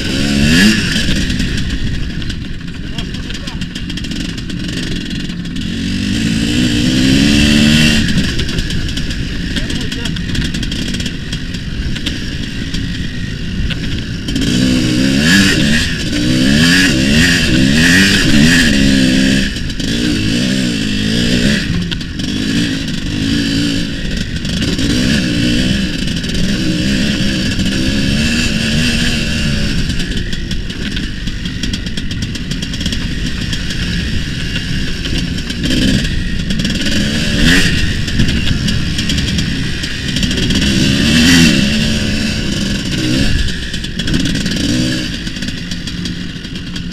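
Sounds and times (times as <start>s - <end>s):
two-stroke motorcycle engine revving: 0.0s - 46.9s.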